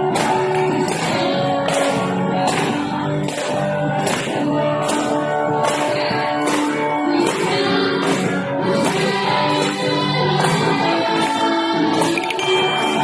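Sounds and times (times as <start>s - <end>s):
percussion hits: 0.0s - 13.0s.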